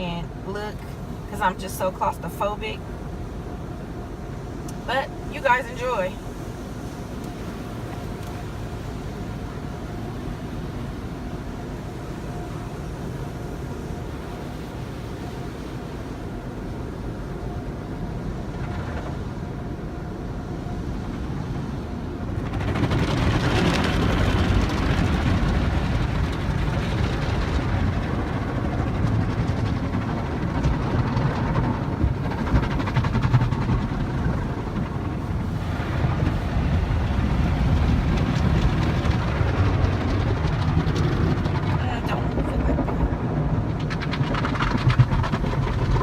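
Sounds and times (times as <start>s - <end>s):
car wash water and machinery: 0.0s - 46.0s.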